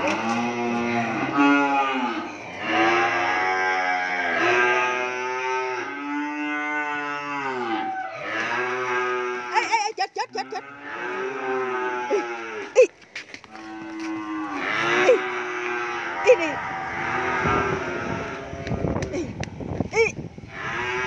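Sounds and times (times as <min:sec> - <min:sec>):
cattle mooing: 0:00.0 - 0:12.9, 0:13.5 - 0:19.2, 0:20.0 - 0:21.0.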